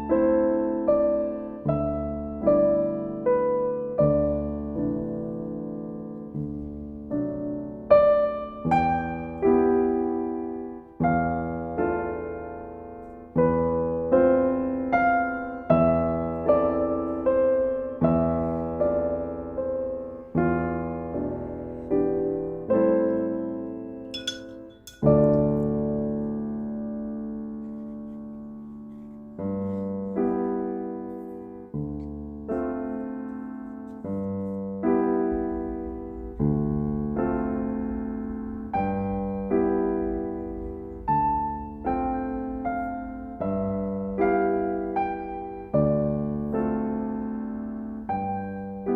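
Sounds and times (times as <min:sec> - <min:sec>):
gentle solo piano: 0:00.0 - 0:48.9.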